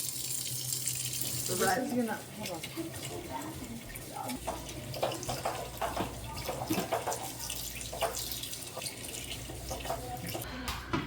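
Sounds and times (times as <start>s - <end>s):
tap water running into sink: 0.0s - 10.5s.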